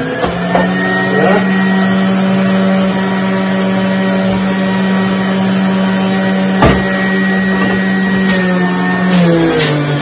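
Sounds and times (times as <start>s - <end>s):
juicer motor humming: 0.0s - 10.0s.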